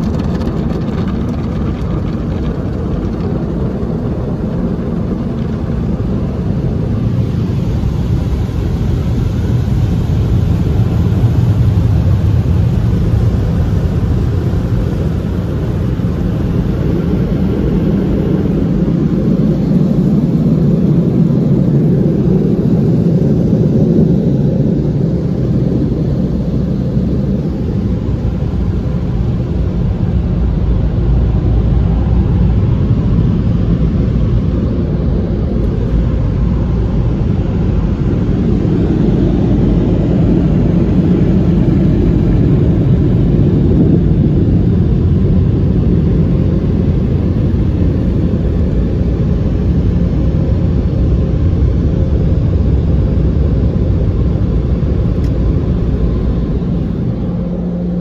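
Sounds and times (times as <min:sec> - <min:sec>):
car wash dryer blowers: 0:00.0 - 0:58.0.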